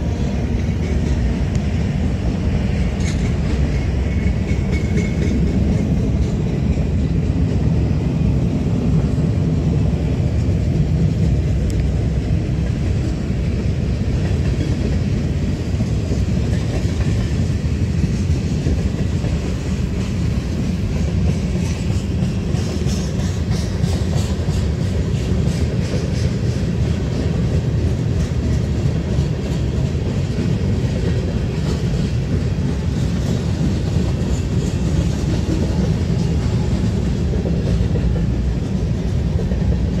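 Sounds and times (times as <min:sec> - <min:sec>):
freight train wheels rumbling: 0:00.0 - 0:40.0
wheels clicking over rail joints: 0:00.0 - 0:40.0.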